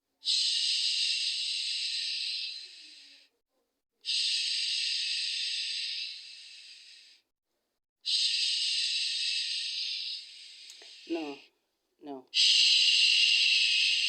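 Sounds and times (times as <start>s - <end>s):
soothing hushing hisses: 0.2s - 3.3s, 4.1s - 7.2s, 8.1s - 11.5s, 12.3s - 14.0s.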